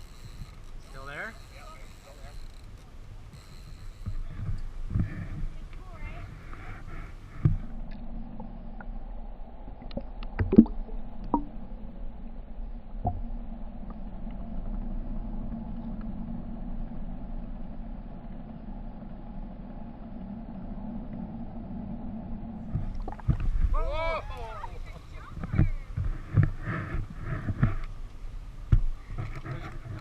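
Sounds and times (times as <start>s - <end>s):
outboard motors humming: 0.0s - 9.8s, 10.5s - 30.0s.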